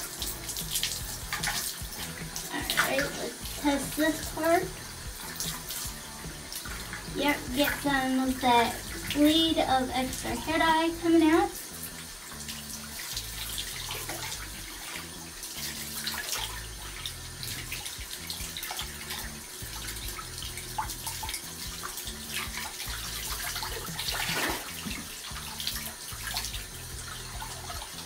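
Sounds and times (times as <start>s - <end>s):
water running from a tap: 0.0s - 28.0s
water splashing over hair: 0.0s - 28.0s.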